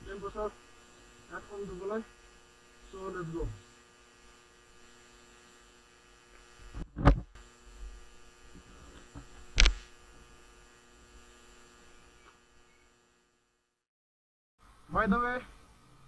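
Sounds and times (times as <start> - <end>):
faint electrical hum: 0.0 - 13.4.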